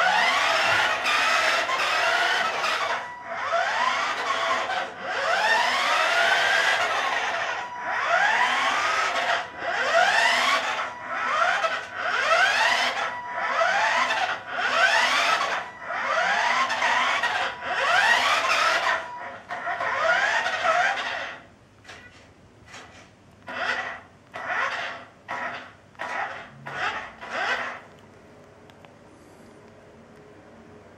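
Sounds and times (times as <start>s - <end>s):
toy car motor whirring: 0.0s - 22.0s, 23.4s - 27.9s.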